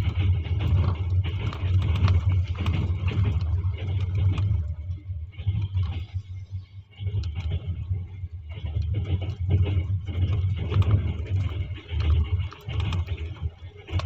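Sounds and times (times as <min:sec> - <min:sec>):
train rumbling hum: 0:00.0 - 0:14.0.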